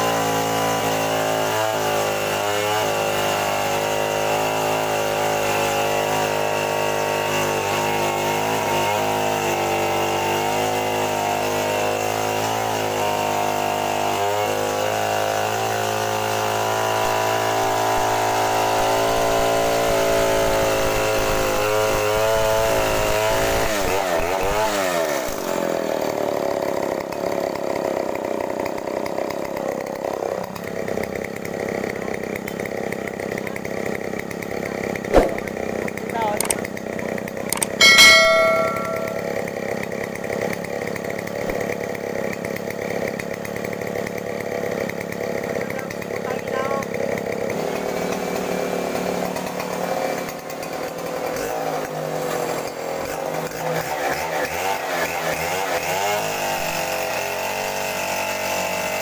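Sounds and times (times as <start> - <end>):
chainsaw cutting wood: 0.0 - 59.0
chainsaw idling: 0.0 - 59.0.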